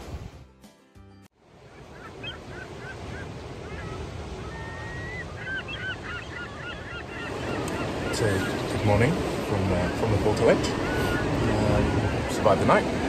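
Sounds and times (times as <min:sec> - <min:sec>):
sea waves breaking: 0:01.4 - 0:13.0
birds squawking: 0:01.6 - 0:13.0.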